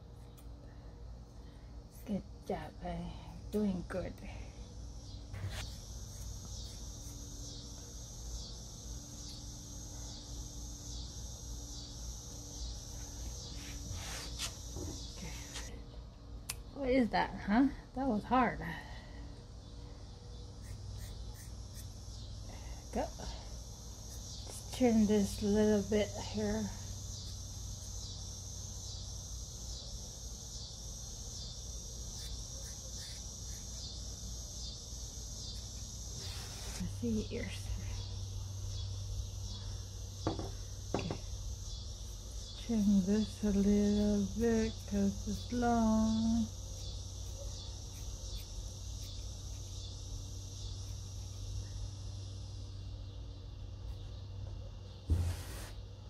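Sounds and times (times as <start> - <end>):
insects singing: 0.0 - 17.1, 18.0 - 56.0
low background hum: 0.0 - 56.0.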